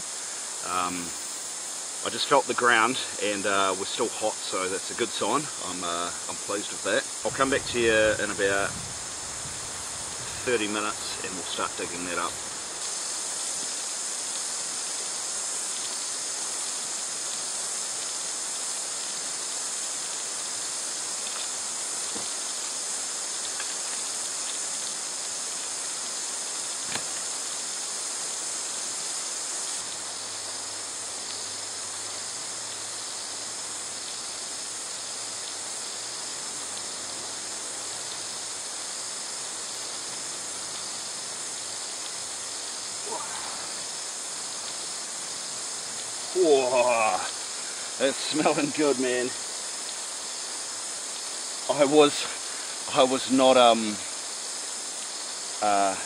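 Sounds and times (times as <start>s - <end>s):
high-pitched bush ambience hiss: 0.0s - 56.0s.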